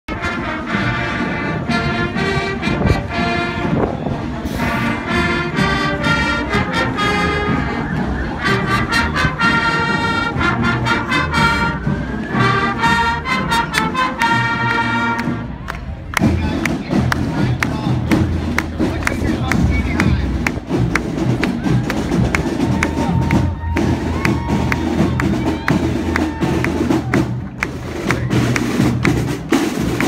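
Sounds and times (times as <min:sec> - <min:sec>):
marching band brass: 0:00.1 - 0:30.0.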